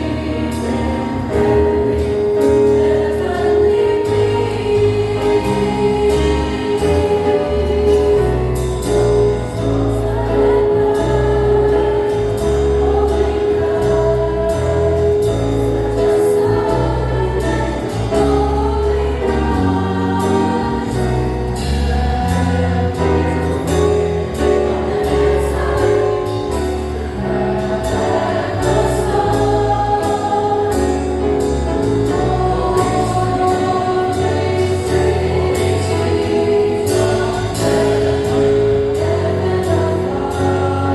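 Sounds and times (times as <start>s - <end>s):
choir singing jazz-style song: 0.0s - 40.9s.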